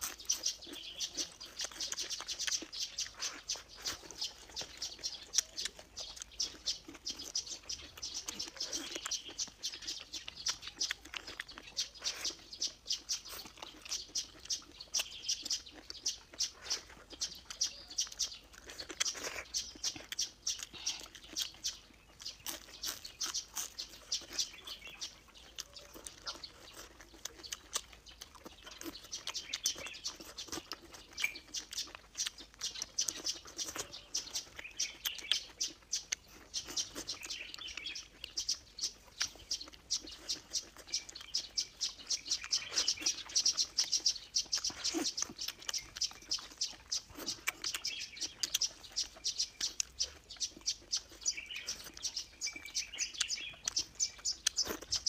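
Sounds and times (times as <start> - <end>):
chewing crisp vegetables: 0.0 - 55.0
wet mouth clicks: 0.0 - 55.0.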